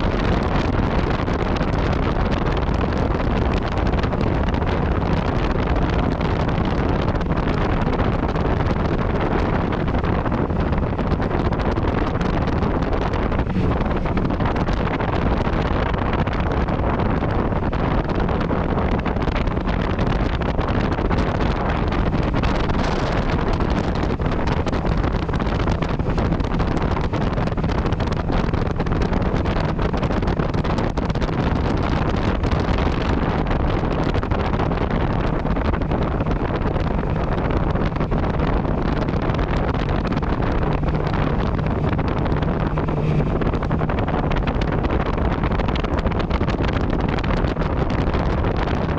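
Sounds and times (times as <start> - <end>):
motorcycle engine running: 0.0 - 48.7
wind rushing over microphone: 0.0 - 48.9.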